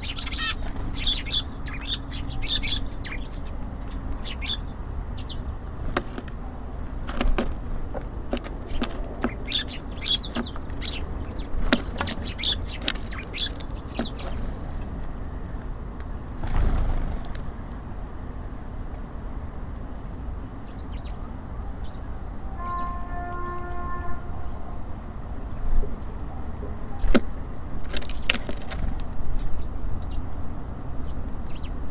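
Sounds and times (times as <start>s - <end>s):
small birds chirping: 0.0s - 15.6s, 20.6s - 24.6s, 25.5s - 31.8s.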